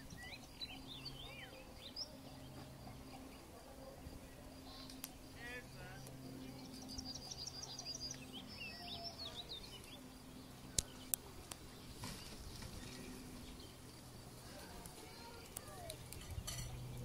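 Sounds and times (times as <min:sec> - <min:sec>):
faint low hum: 0:00.0 - 0:17.0
small bird chirping: 0:00.0 - 0:17.0.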